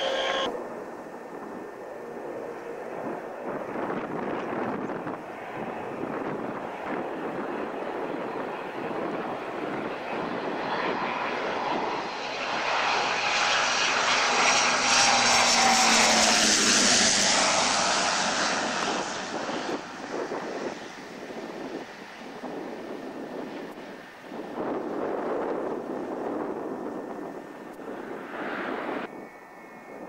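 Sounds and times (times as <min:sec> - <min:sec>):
turboprop aircraft passing: 0:00.0 - 0:30.0
wind noise on microphone: 0:00.0 - 0:30.0.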